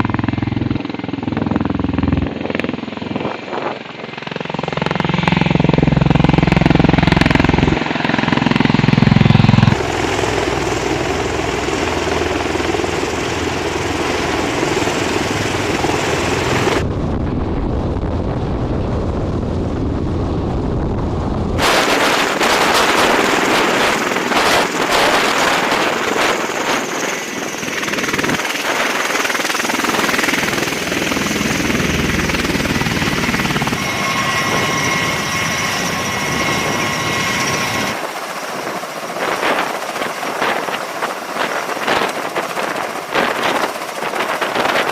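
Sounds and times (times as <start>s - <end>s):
engine and machinery noise: 0.0s - 44.9s.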